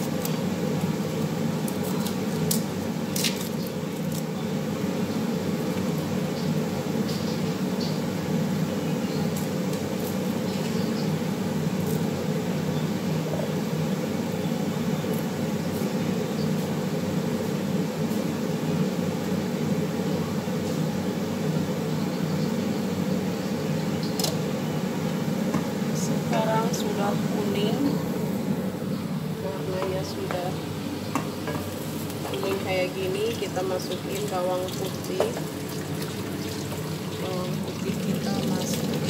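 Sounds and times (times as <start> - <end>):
extractor fan humming: 0.0 - 39.0.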